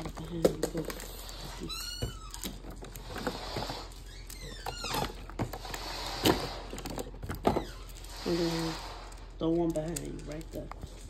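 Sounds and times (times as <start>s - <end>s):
crinkling: 0.0s - 11.0s.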